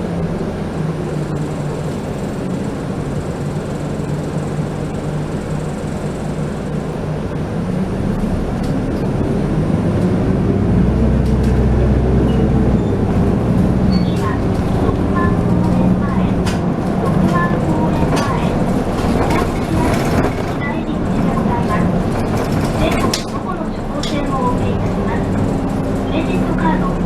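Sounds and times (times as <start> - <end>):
bus engine accelerating: 0.0 - 27.0
road noise inside bus: 0.0 - 27.0.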